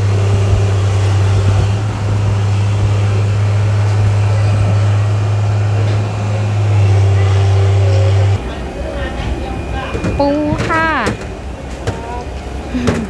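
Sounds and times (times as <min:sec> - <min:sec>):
busy market background noise: 0:00.0 - 0:13.0
low machine hum: 0:00.0 - 0:13.0.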